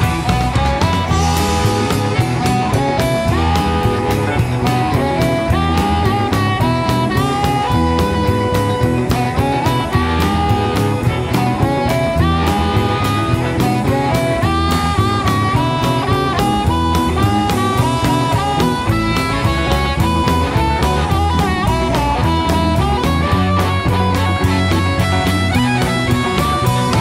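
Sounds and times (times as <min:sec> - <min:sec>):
bass guitar: 0:00.0 - 0:27.0
blues guitar melody: 0:00.0 - 0:27.0
drum kit beat: 0:00.0 - 0:27.0.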